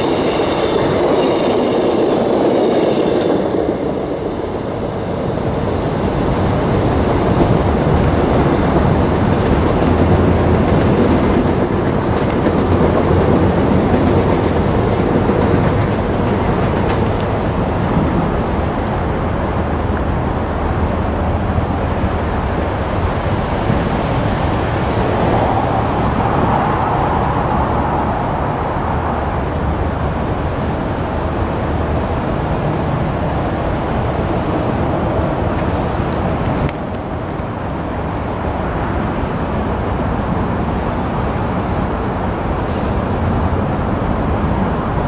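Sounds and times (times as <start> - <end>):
diesel locomotive hum: 0.0 - 45.0
train wheels rumbling on rails: 0.0 - 45.0.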